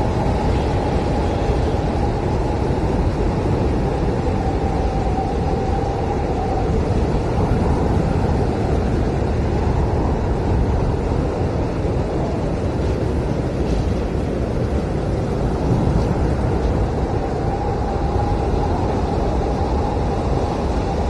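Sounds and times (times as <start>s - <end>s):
blizzard wind howling: 0.0s - 21.0s.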